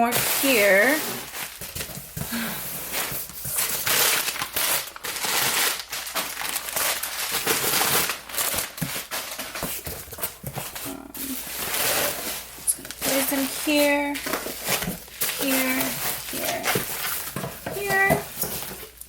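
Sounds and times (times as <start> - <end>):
bubble wrap crinkling: 0.0 - 19.0.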